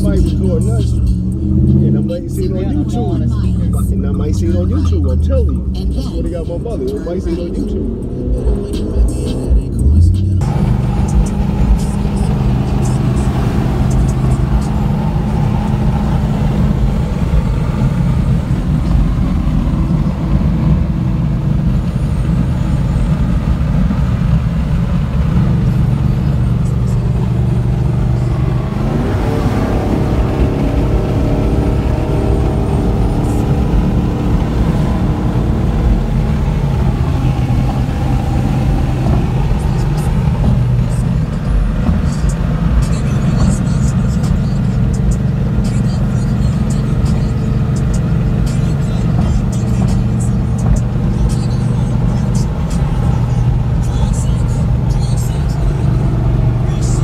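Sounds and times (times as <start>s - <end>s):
car engine revving: 0.0s - 57.0s
road noise inside car: 0.0s - 57.0s.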